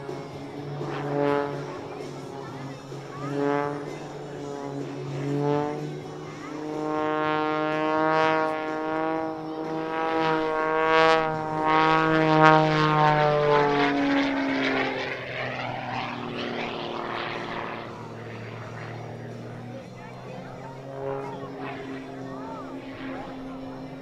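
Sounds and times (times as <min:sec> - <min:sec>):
propeller plane droning by: 0:00.0 - 0:24.0.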